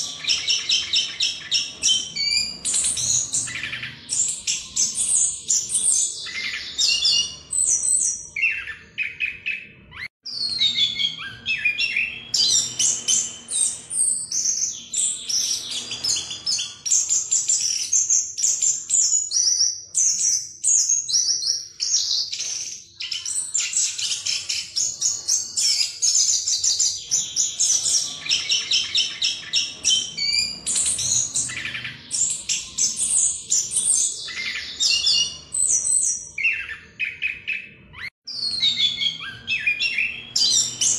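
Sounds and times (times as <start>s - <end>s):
thrush singing trills: 0.0s - 40.9s.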